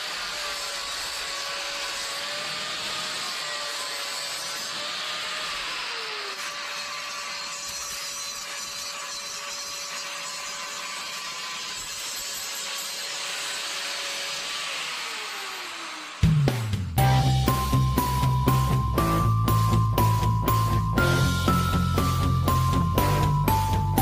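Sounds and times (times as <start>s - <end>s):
angle grinder grinding metal: 0.0s - 24.0s.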